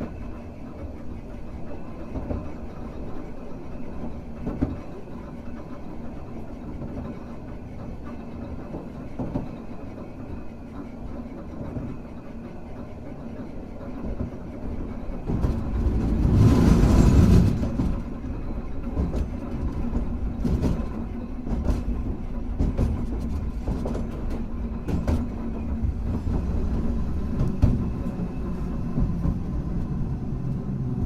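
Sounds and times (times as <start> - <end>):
tram rumbling on track: 0.0 - 31.0.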